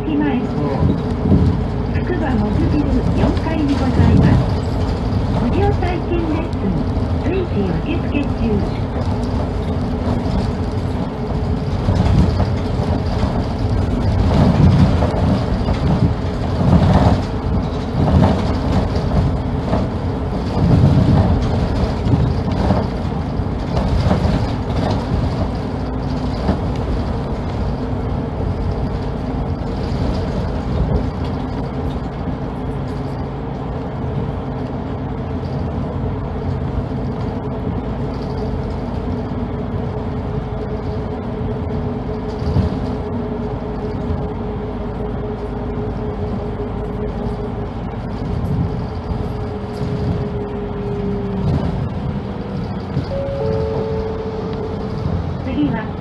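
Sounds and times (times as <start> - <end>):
bus engine and road rumble: 0.0 - 56.0
thumps inside bus: 0.0 - 56.0.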